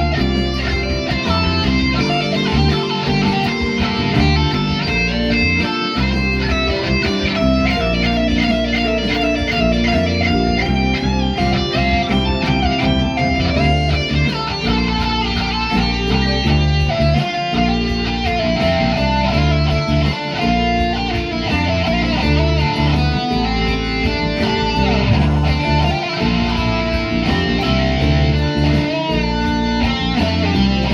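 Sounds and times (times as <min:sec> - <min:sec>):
low bass notes: 0:00.0 - 0:30.9
picked guitar notes: 0:00.0 - 0:30.9.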